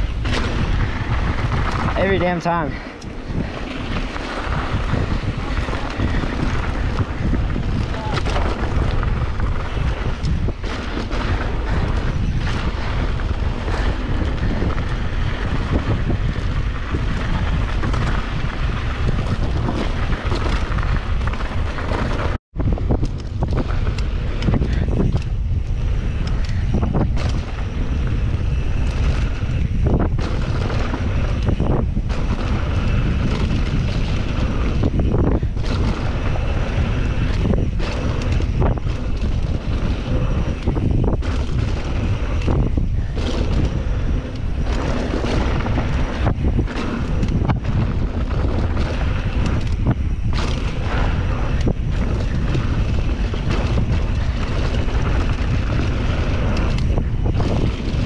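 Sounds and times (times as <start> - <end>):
bike knocking and clattering: 0.0 - 58.0
wind noise on microphone: 0.0 - 58.0.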